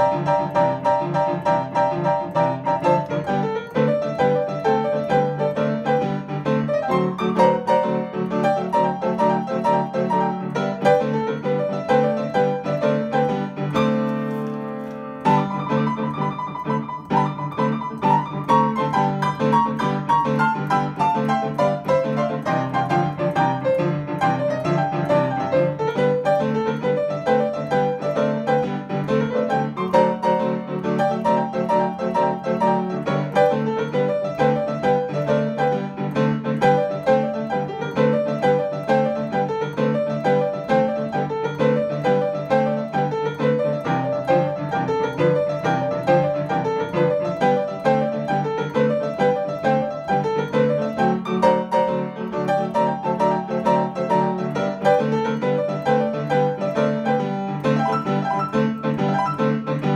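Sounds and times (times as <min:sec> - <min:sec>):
boogie-woogie piano: 0:00.0 - 0:59.9.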